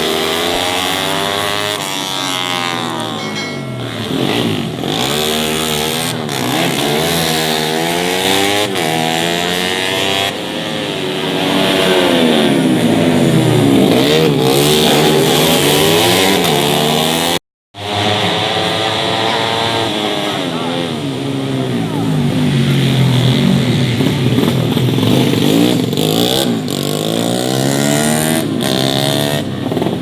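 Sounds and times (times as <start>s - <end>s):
racing motorcycles revving: 0.0s - 30.0s.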